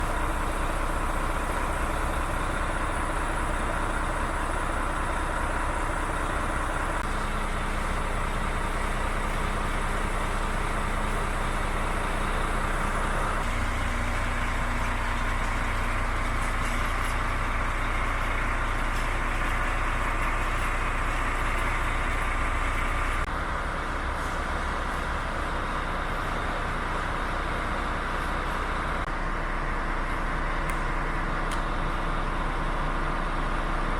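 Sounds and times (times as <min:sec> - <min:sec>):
truck diesel engine idling: 0:00.0 - 0:33.9.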